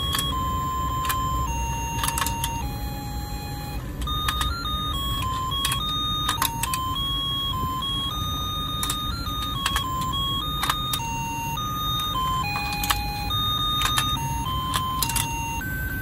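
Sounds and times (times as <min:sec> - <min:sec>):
toy motor whirring: 0:00.0 - 0:15.9
electronic beeping tune: 0:00.0 - 0:16.0.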